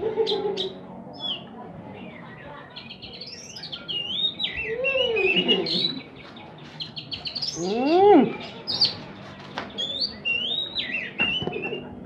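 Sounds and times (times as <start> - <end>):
bird singing: 0.2 - 12.0.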